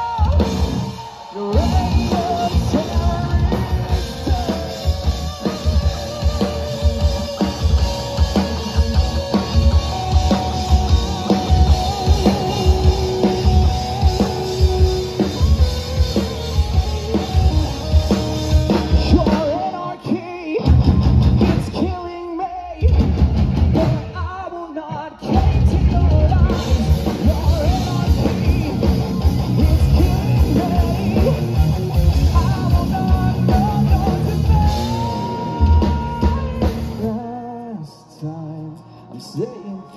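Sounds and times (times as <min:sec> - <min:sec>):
drum kit: 0:00.0 - 0:24.5, 0:25.2 - 0:37.2
electric guitars: 0:00.0 - 0:39.9.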